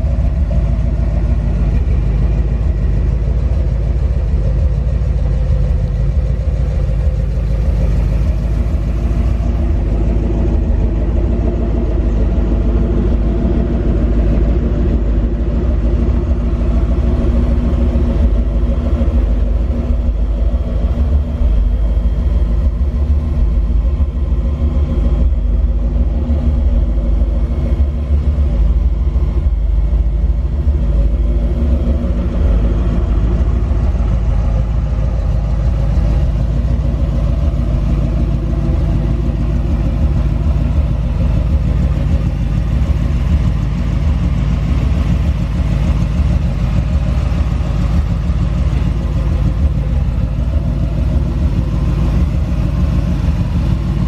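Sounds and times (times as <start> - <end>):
engine running with deep exhaust: 0.0 - 54.0.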